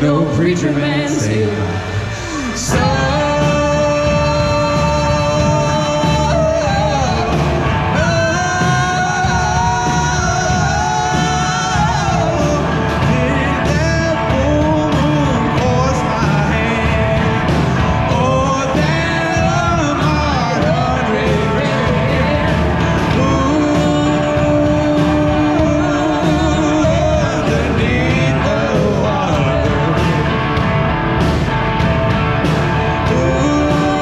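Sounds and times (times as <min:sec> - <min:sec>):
person singing: 0:00.0 - 0:31.0, 0:32.4 - 0:34.0
live rock band playing: 0:00.0 - 0:34.0.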